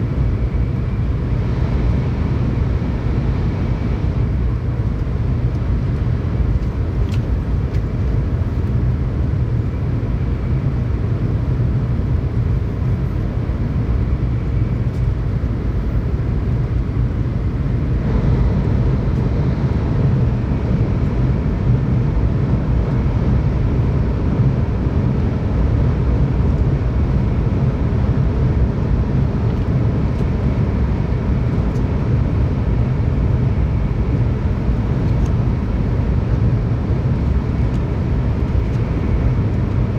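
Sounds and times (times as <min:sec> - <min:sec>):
train interior rumble and hiss: 0:00.0 - 0:39.9.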